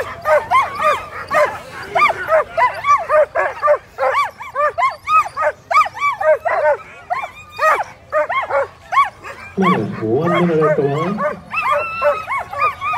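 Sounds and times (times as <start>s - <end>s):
sled dogs barking and yelping: 0.0s - 12.9s.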